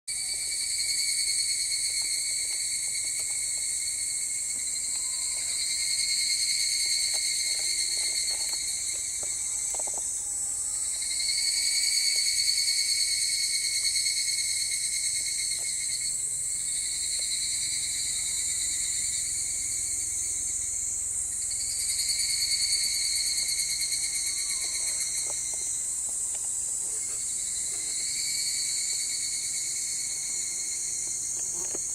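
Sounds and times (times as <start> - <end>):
cicadas calling in chorus: 0.1 - 31.9.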